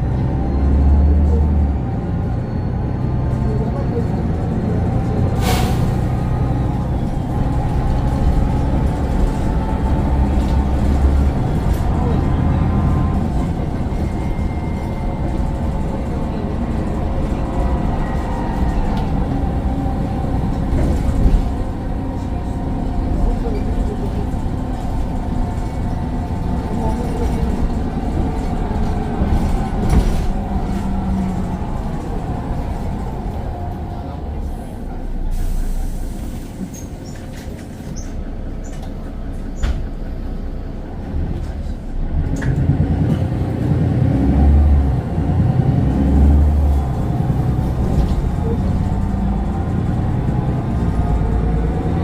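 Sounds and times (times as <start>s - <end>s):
bus diesel engine running: 0.0s - 52.0s.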